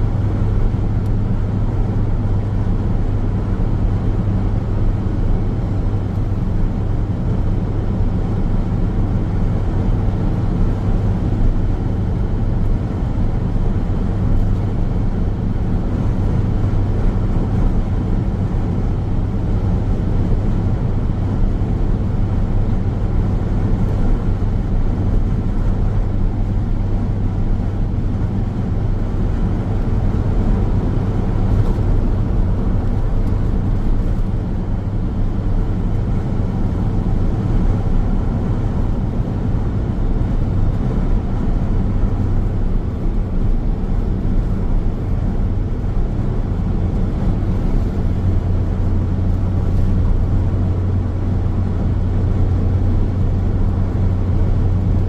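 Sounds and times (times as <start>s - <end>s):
car engine drone: 0.0s - 55.0s
tyres rumbling on road: 0.0s - 55.0s.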